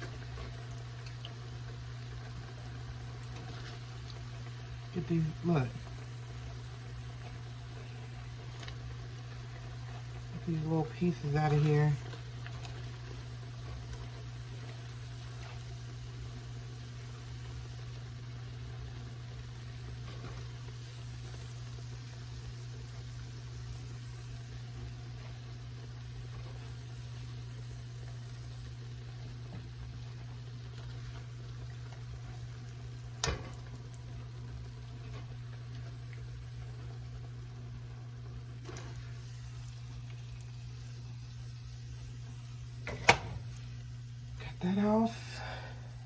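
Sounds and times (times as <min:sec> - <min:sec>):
constant low hum: 0:00.0 - 0:46.0
oil sizzling in a pan: 0:00.0 - 0:46.0.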